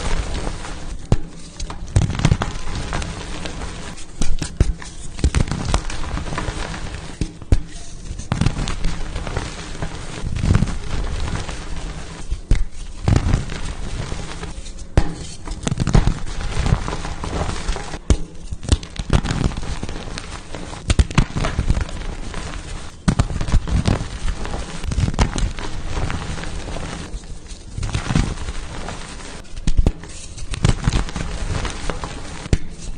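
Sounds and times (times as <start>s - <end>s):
chalk blocks crunching: 0.0s - 32.9s.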